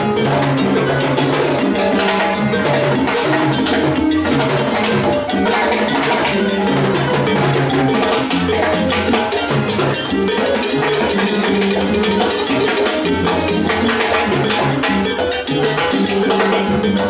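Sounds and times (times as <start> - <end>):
congas and timbales: 0.0 - 17.0
electric bass line: 0.0 - 17.0.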